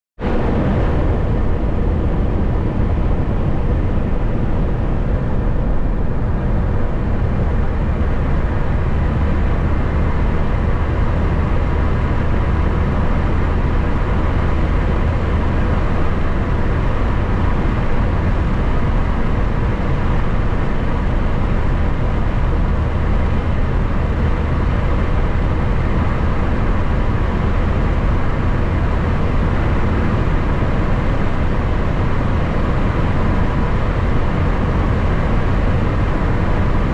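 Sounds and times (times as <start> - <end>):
car cabin road noise: 0.2 - 36.9.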